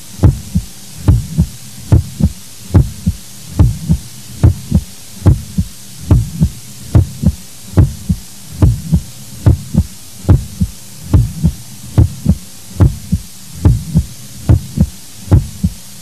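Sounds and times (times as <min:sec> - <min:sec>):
heartbeat double thumps: 0:00.2 - 0:15.8.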